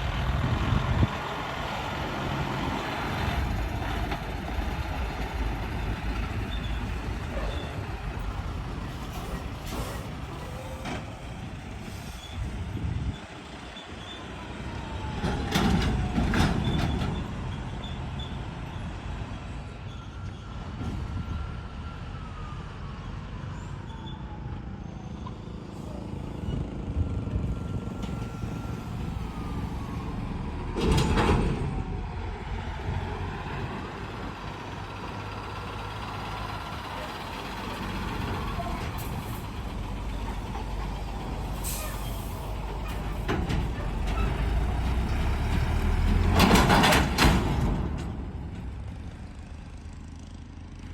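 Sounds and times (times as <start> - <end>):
trucks and buses passing: 0.0 - 50.9.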